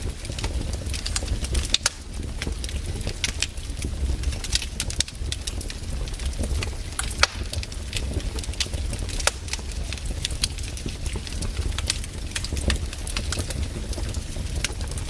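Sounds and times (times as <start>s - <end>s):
campfire crackling: 0.0s - 15.0s
fire popping and snapping: 0.0s - 15.0s.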